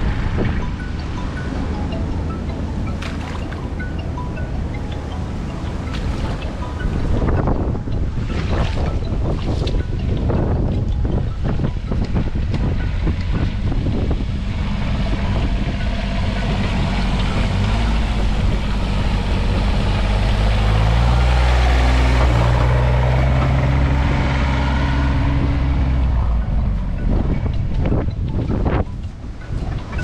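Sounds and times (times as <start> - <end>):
vehicle engine running: 0.0 - 30.0
wind buffeting microphone: 0.0 - 30.0.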